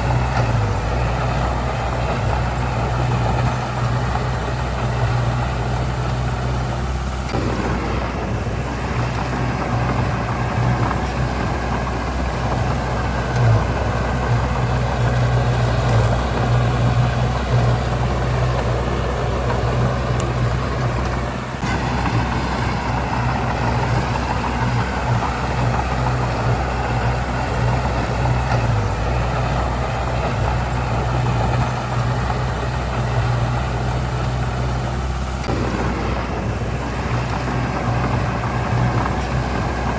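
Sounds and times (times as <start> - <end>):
diesel engine drone: 0.0 - 39.9
grinding mechanical noise: 0.0 - 39.9.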